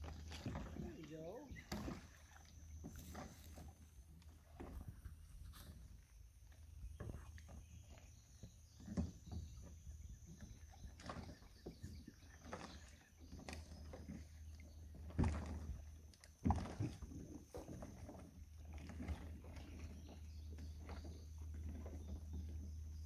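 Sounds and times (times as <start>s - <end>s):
kayak knocks and splashes: 0.0s - 6.0s, 6.7s - 23.0s.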